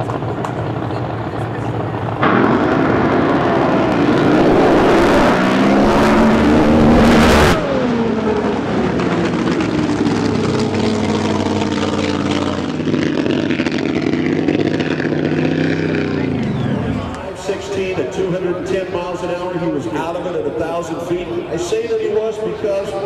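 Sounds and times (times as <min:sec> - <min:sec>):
racing boat engine: 0:00.0 - 0:21.5.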